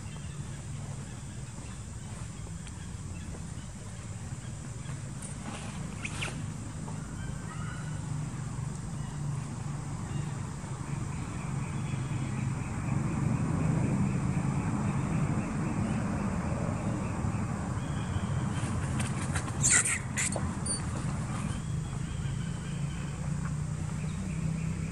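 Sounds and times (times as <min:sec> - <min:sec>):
motorbike engine passing: 0:04.8 - 0:24.9.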